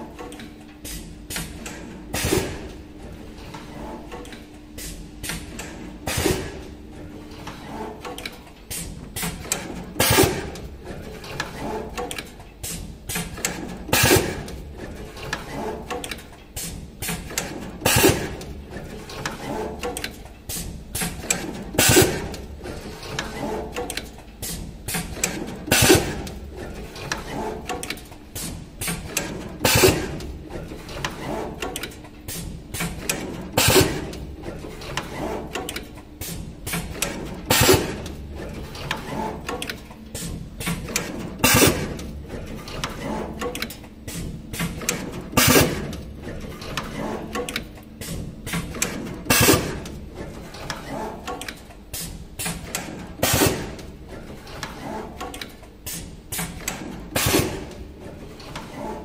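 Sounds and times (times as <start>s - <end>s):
pneumatic grippers clacking: 0.0s - 59.0s.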